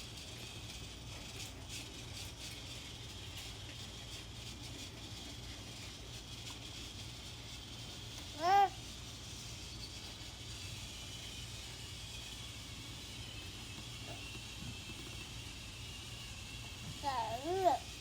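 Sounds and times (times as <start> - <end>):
toy train motor whine: 0.0 - 18.0.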